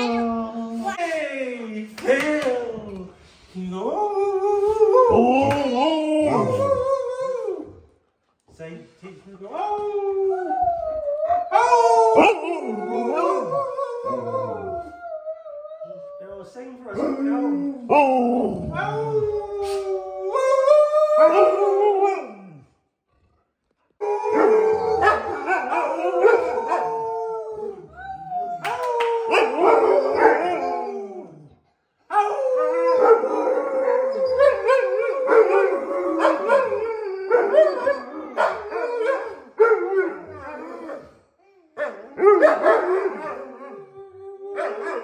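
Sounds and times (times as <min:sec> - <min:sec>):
dogs howling: 0:03.9 - 0:07.9, 0:09.5 - 0:22.6, 0:24.0 - 0:41.2, 0:41.8 - 0:45.0.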